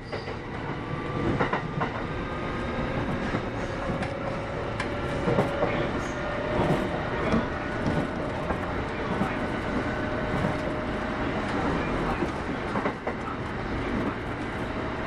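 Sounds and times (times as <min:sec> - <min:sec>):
rail joint clicks: 0:00.0 - 0:15.0
train wheels rumbling on rail: 0:00.0 - 0:15.0.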